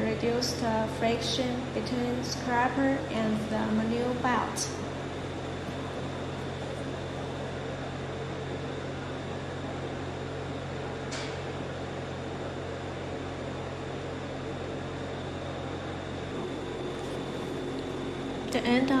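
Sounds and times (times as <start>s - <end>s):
mechanical hum of equipment: 0.0s - 19.0s.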